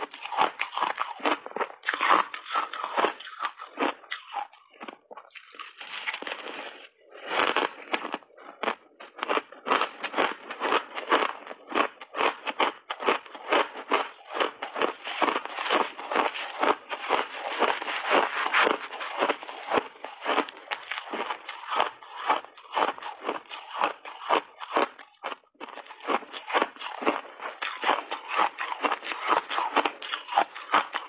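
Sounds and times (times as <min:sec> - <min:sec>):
crunching shaved ice: 0:00.0 - 0:31.0.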